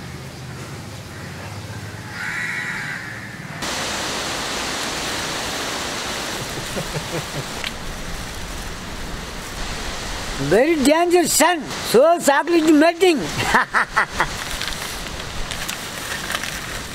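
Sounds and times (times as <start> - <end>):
steady outdoor hiss: 0.0 - 16.9.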